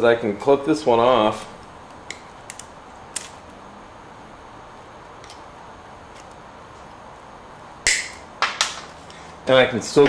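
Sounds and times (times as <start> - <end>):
steady low hiss: 0.0 - 10.0.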